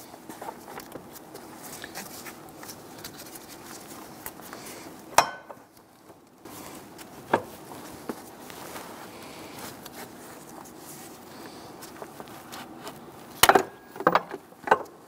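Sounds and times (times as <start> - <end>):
handling rustle and taps: 0.0 - 15.0.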